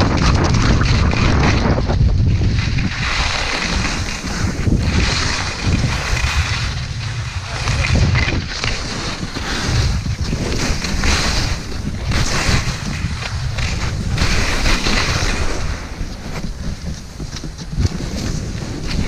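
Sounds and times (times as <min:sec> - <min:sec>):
skis scraping over snow: 0:00.0 - 0:19.0
wind on microphone: 0:00.0 - 0:19.0.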